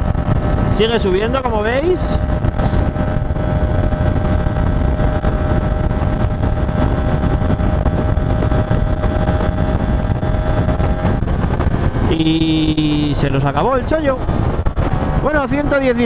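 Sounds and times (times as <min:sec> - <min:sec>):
motorcycle engine at high revs: 0:00.0 - 0:16.0
wind noise on microphone: 0:00.0 - 0:16.0.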